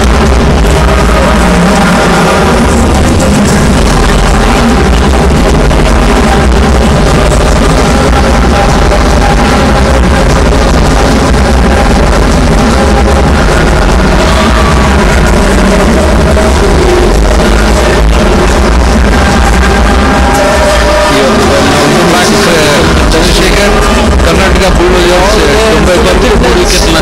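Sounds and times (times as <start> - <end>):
loud dense music: 0.0 - 27.0.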